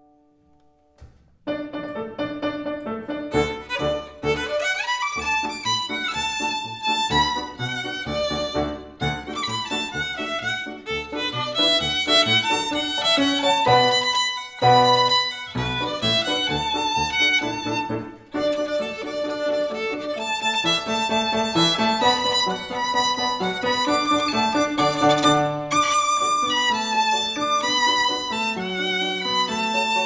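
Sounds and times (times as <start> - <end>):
piano accompaniment: 0.0 - 30.0
violin melody: 1.5 - 30.0.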